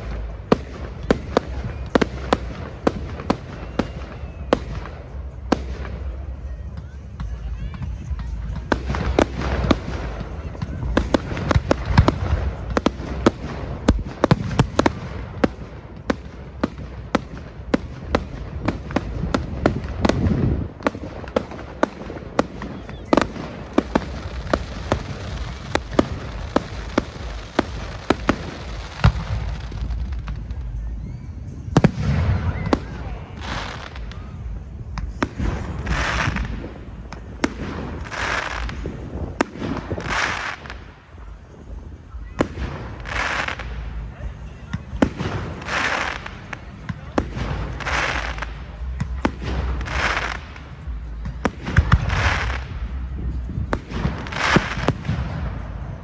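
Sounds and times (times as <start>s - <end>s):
fireworks bangs and crackles: 0.0s - 56.0s
low rumble: 0.0s - 56.0s
rushing bursts of fireworks: 0.0s - 56.0s.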